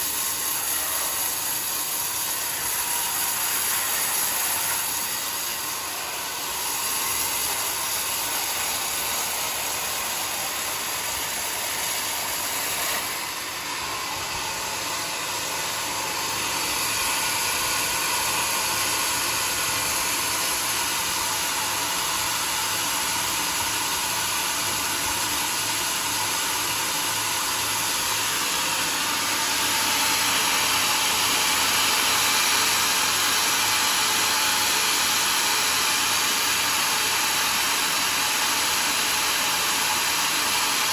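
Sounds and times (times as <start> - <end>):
saw cutting through log: 0.0 - 40.9.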